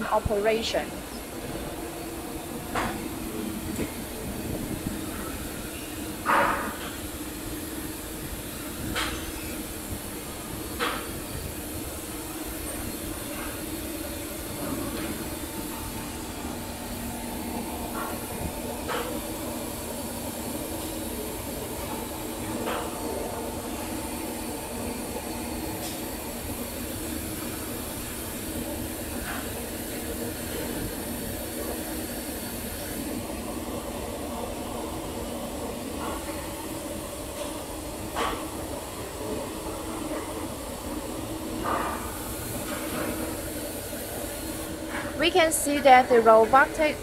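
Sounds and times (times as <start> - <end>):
machines humming with hiss: 0.0 - 47.0.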